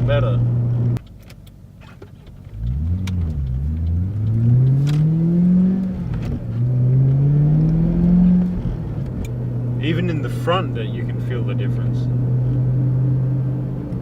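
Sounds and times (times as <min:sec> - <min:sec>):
car engine accelerating: 0:00.0 - 0:01.0, 0:02.4 - 0:14.0.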